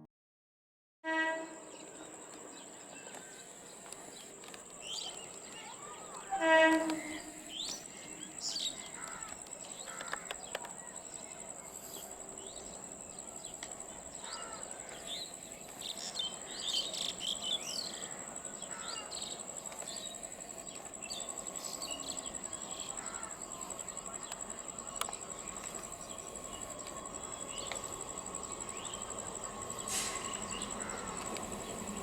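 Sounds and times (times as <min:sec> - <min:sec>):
insect trill: 0:01.5 - 0:32.0.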